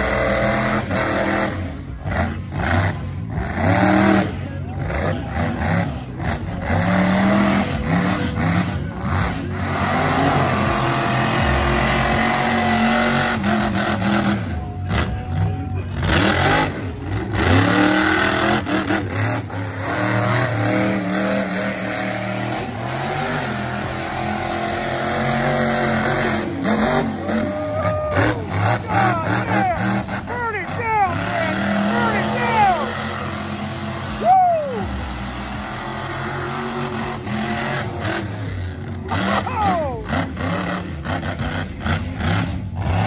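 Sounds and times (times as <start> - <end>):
monster truck engine revving: 0.0 - 43.0.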